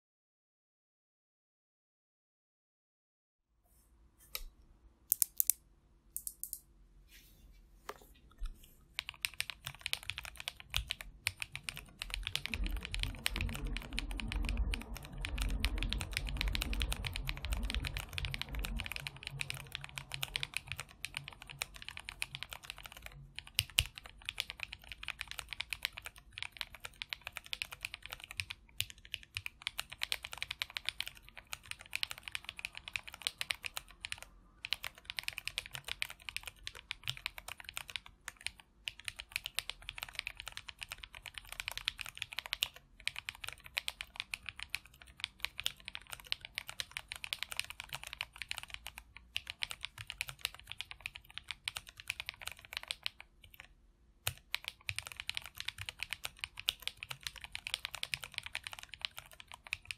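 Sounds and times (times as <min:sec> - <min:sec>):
mechanical keyboard typing: 0:09.0 - 0:59.9.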